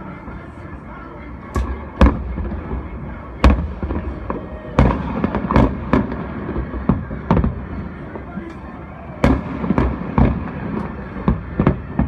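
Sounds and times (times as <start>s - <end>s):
distant fireworks bangs echoing: 1.5s - 12.0s.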